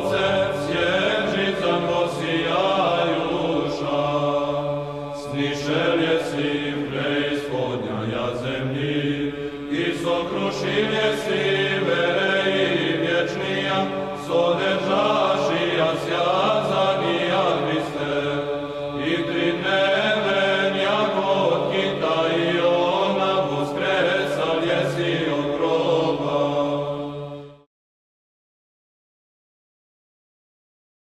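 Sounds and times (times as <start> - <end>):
low held drone: 0.0 - 27.3
voices chanting a melody: 0.0 - 27.4.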